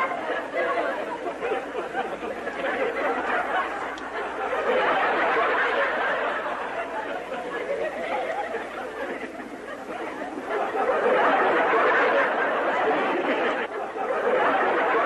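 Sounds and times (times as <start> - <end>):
studio audience laughing: 0.0 - 15.0.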